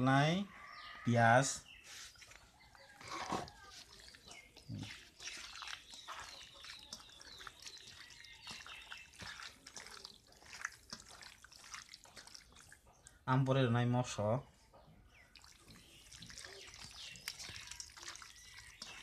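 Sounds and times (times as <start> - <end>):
wet squelching of raw chicken: 1.7 - 13.2, 15.1 - 19.0.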